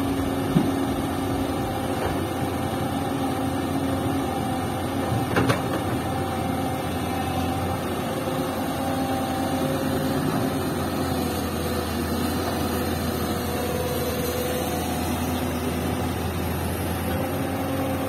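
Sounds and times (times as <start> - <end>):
dump truck engine running: 0.0 - 18.0
excavator diesel engine: 0.0 - 18.0.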